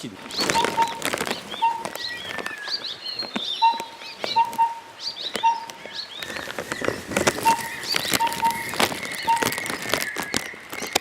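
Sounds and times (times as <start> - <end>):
birds chirping and whistling: 0.0 - 11.0
sharp clicks: 0.3 - 11.0.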